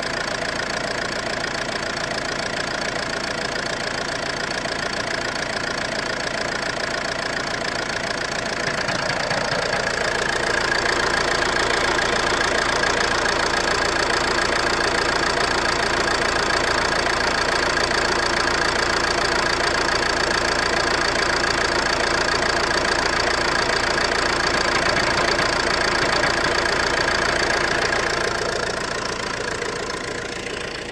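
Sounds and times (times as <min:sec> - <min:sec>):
car engine knocking: 0:00.0 - 0:30.9.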